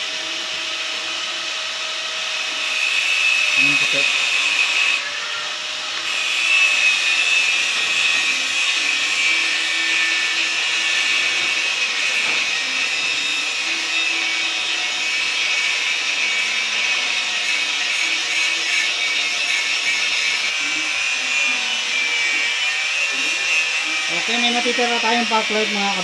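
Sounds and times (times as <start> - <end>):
small electric motor whirring: 0.0 - 26.0.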